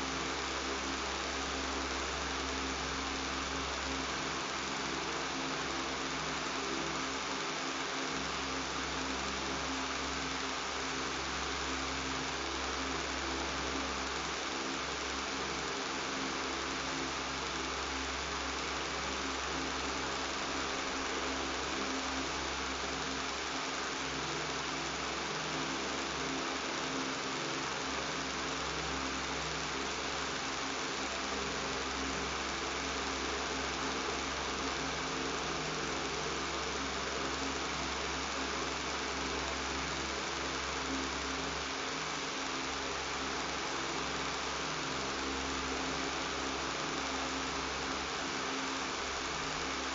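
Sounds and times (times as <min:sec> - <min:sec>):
electric fan running with buzz: 0:00.0 - 0:49.9.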